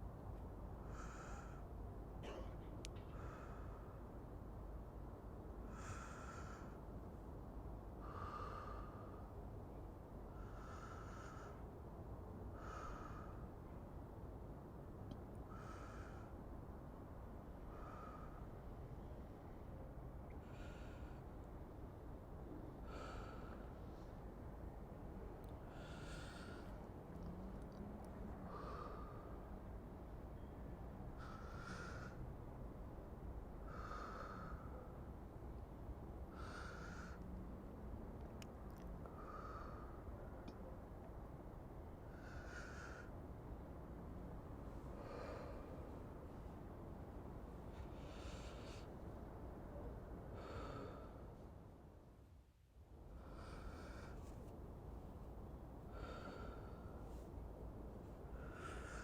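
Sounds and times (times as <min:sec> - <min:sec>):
low background noise: 0:00.0 - 0:59.0
low city rumble: 0:00.0 - 0:59.0
man breathing slowly: 0:00.7 - 0:02.0, 0:02.9 - 0:04.3, 0:05.5 - 0:13.9, 0:15.3 - 0:37.7, 0:38.4 - 0:52.4, 0:53.0 - 0:59.0.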